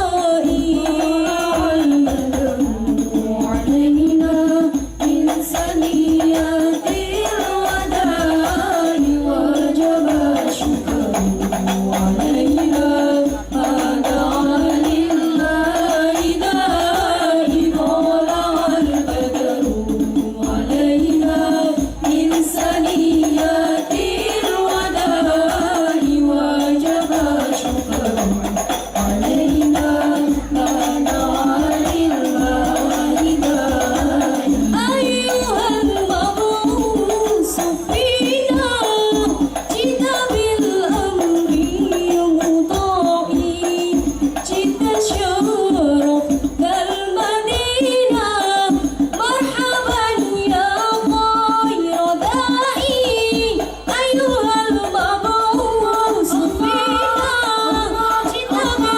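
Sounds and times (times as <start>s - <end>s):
frame drums beating: 0.0s - 58.9s
voices singing devotional melody: 0.0s - 58.9s.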